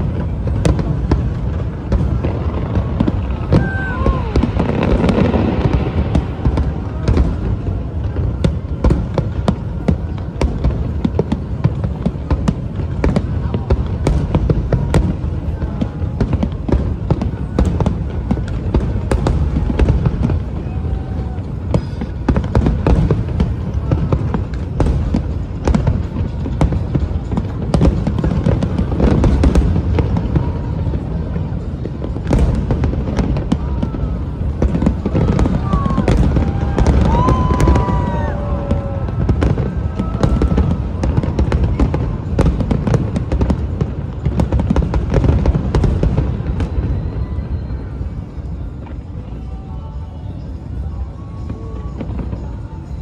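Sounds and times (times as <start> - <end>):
crowd voices: 0.0 - 53.0
fireworks booming and banging: 0.0 - 53.0.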